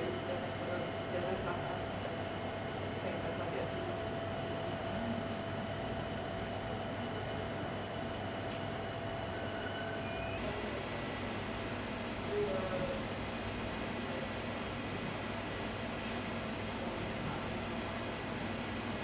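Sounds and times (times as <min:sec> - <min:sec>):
printer mechanical hum and whir: 0:00.0 - 0:19.0.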